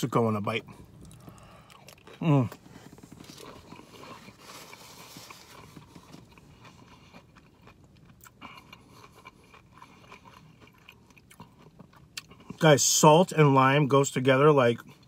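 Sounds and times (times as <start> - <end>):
person chewing crunchy chips: 0.6 - 12.8.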